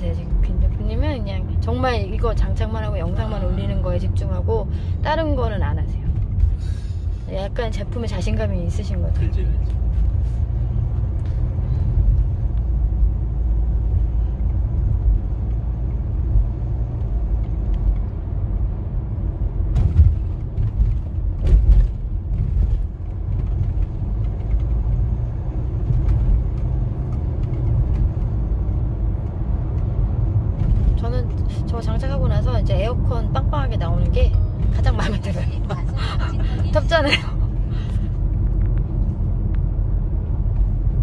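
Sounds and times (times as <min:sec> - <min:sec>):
car rumble inside cabin: 0:00.0 - 0:41.0.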